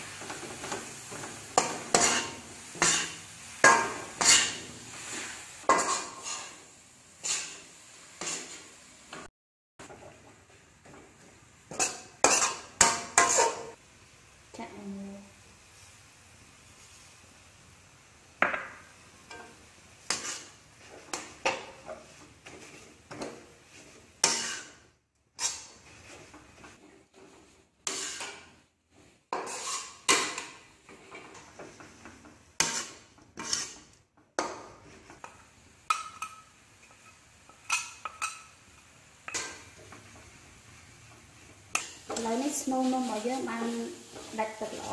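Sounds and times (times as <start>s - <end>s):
metal spatula scraping wok: 0.0s - 9.2s, 11.7s - 13.8s, 19.3s - 35.3s, 35.9s - 44.9s.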